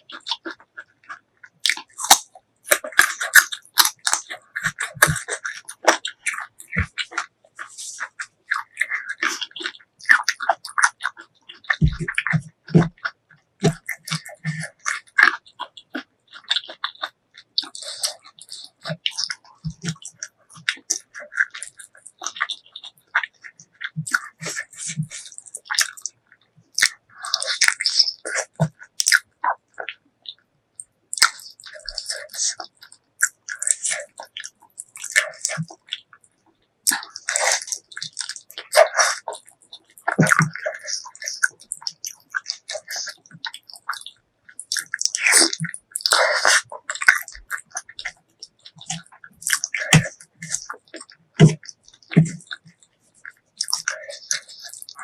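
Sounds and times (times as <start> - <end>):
wet chewing and smacking: 0.0 - 55.0.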